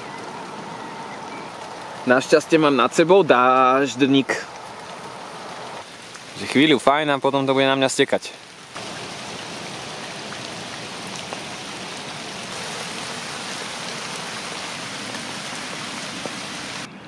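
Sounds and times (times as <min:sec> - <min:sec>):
rain on an umbrella: 0:00.0 - 0:16.9.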